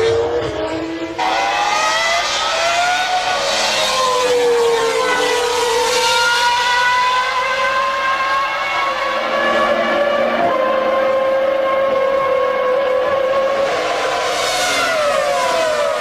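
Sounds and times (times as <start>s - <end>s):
racing car engine revving: 0.0s - 16.0s.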